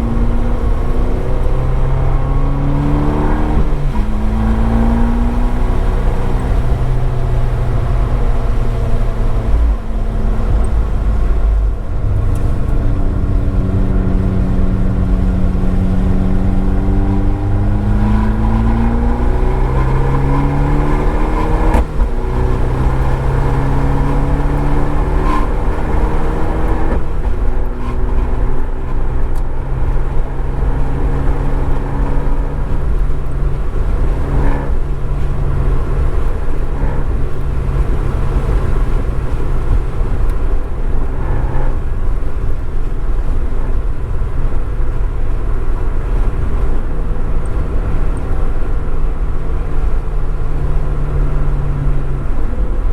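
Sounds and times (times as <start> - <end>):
car engine accelerating hard: 0.0 - 52.9.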